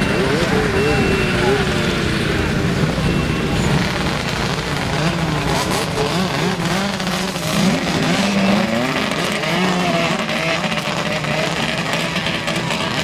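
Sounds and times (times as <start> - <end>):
snowmobile engines revving: 0.0 - 13.0.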